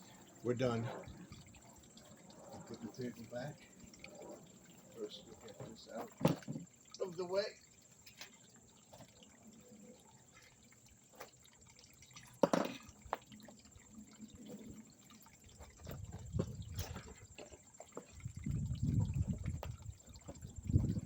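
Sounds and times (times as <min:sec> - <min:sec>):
waterfall trickling and dripping: 0:00.0 - 0:21.0.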